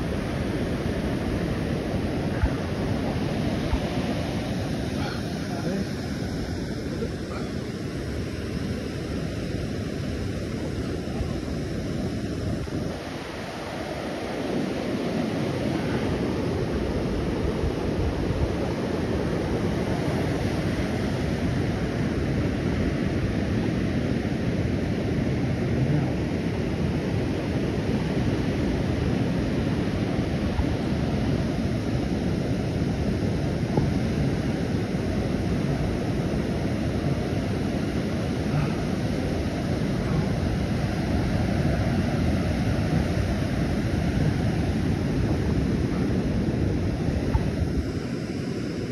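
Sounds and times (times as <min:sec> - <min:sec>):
ocean surf breaking: 0:00.0 - 0:48.9
wind buffeting microphone: 0:00.0 - 0:48.9.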